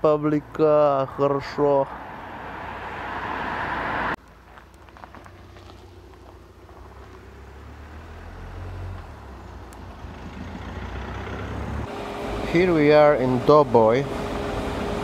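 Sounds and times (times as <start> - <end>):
road vehicle rumble: 0.0 - 15.0.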